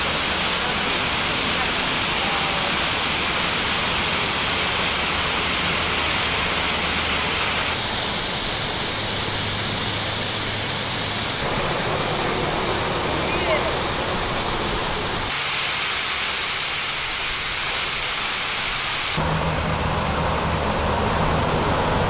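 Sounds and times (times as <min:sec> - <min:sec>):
cascading creek: 0:00.0 - 0:19.4
waterfall rushing: 0:00.0 - 0:22.0.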